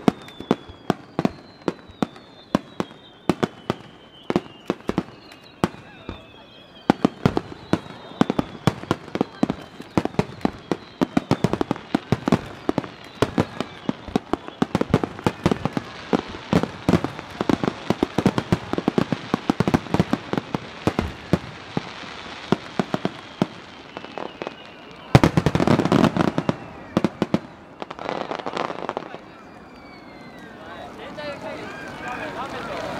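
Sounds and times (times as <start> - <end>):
falling firework whistles: 0.0 - 32.9
fireworks bangs and crackles: 0.0 - 32.9.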